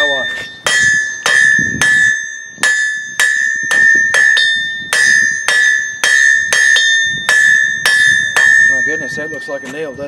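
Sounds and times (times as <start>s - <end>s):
hammer striking hot metal on anvil: 0.0s - 10.0s.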